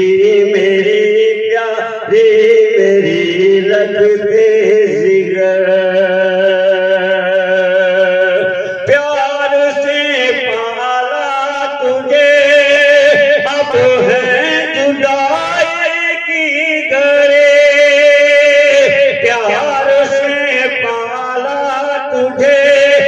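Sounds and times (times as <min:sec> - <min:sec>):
man singing long held notes: 0:00.0 - 0:23.0.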